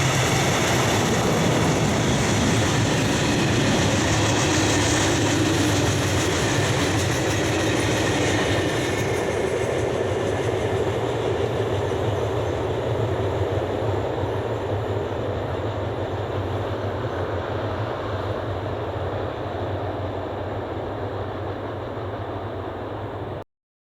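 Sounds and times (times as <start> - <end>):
freight train rolling past: 0.0 - 23.4.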